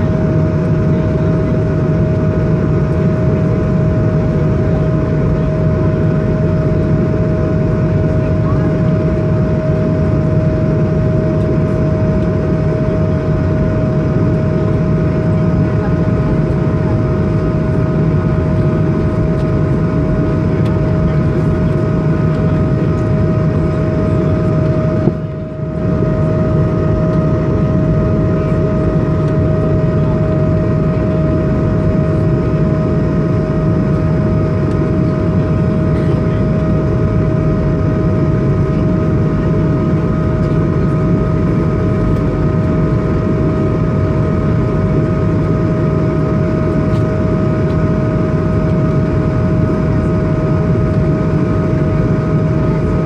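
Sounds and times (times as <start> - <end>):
jet engine drone in cabin: 0.0 - 53.0.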